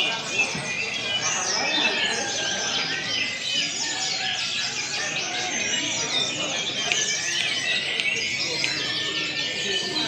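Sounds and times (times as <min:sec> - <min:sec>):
birds singing in chorus: 0:00.0 - 0:10.0.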